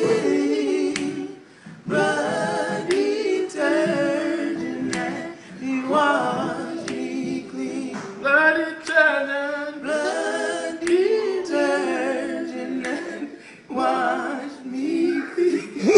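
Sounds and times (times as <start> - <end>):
men singing a cappella in harmony: 0.0 - 15.9.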